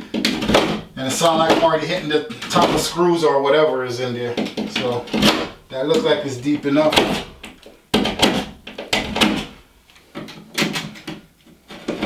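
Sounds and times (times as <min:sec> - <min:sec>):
blade cutting through drywall: 0:00.0 - 0:09.7, 0:10.5 - 0:12.0.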